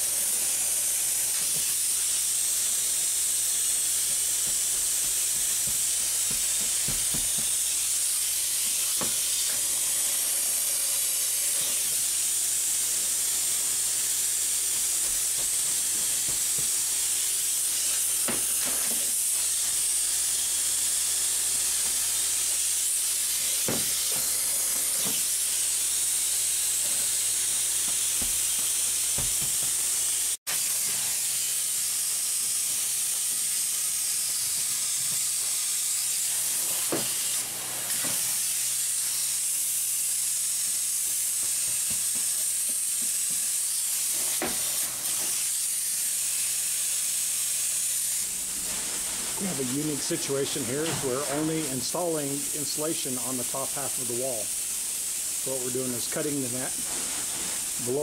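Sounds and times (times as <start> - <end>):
spray foam gun hissing: 0.0 - 58.0.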